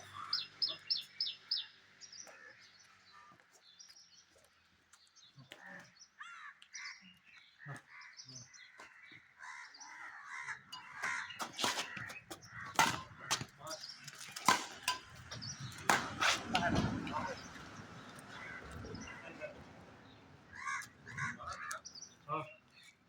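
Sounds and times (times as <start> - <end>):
bird calls and caws: 0.0 - 23.0.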